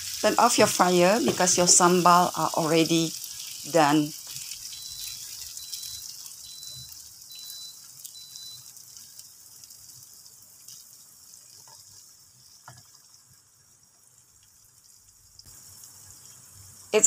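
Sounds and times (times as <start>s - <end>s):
chili paste sizzling in a pan: 0.0s - 17.0s.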